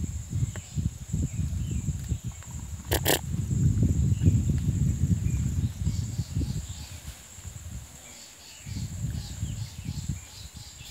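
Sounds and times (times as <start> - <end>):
insects buzzing: 0.0 - 10.9.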